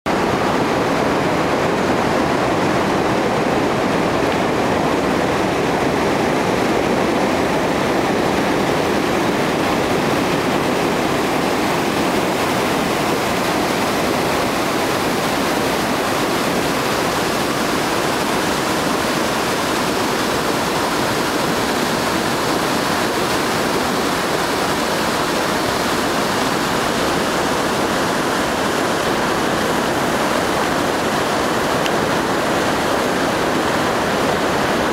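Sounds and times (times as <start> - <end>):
white water rushing over rocks: 0.1 - 34.9.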